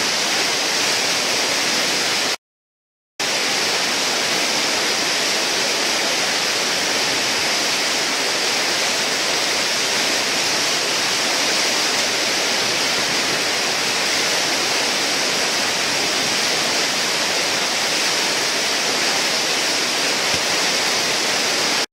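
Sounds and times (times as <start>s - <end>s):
whitewater rushing: 0.0s - 2.4s, 3.2s - 21.9s.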